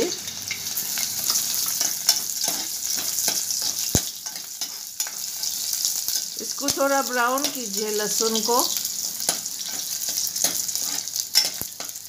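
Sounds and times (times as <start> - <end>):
garlic sizzling in oil: 0.0 - 12.0
spoon scraping a pan: 0.5 - 12.0.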